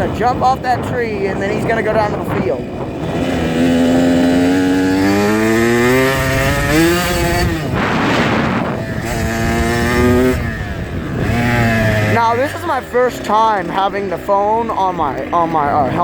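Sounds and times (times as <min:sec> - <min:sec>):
dirt bike engine accelerating: 0:00.0 - 0:16.0.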